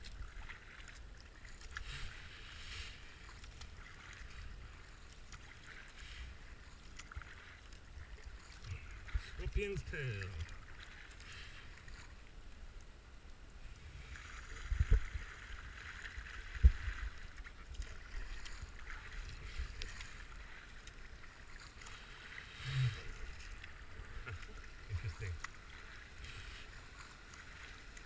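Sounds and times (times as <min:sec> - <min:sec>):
paddle strokes: 0:00.0 - 0:13.0, 0:13.6 - 0:28.0
rushing river water: 0:00.0 - 0:28.0.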